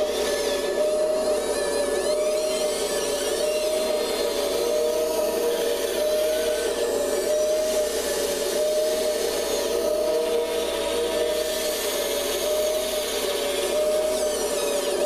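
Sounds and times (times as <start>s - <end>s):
electric motor whine: 0.0s - 15.0s
higher wavering servo whines: 0.0s - 15.0s.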